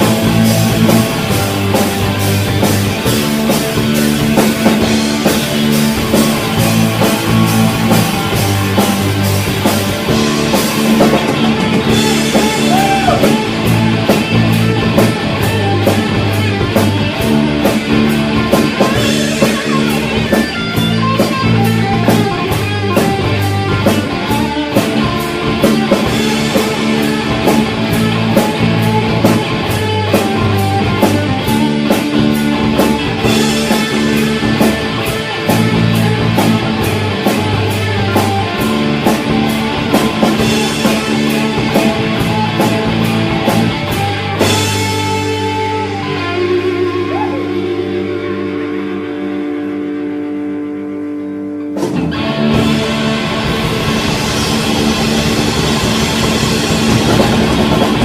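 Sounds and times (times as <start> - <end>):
drum kit steady beat: 0.0 - 45.8, 51.8 - 58.0
bass guitar: 0.0 - 58.0
electric guitars: 0.0 - 58.0.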